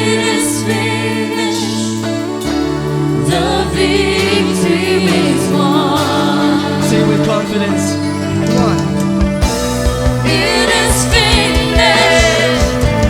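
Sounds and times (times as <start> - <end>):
held instrumental chords: 0.0 - 13.0
people singing worship music: 0.0 - 13.0.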